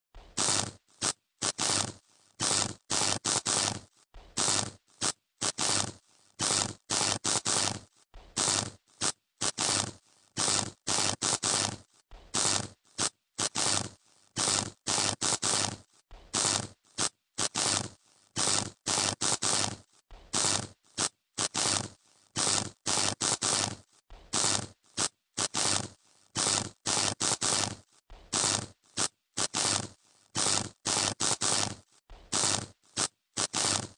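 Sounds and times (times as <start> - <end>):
electrical arcing crackle and buzz: 0.4 - 33.9.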